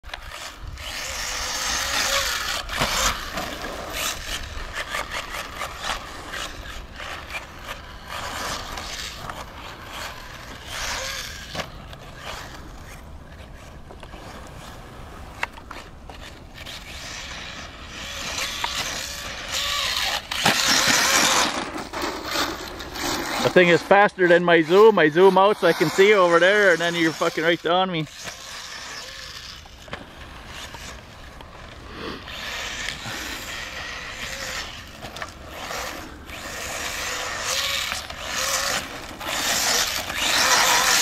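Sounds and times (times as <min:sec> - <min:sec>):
distant rc car engine buzz: 0:00.0 - 0:41.0.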